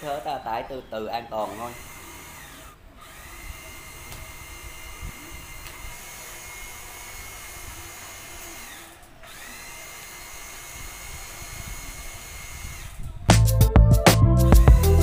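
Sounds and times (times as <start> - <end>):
electric hoist winch whining: 0.0 - 13.3.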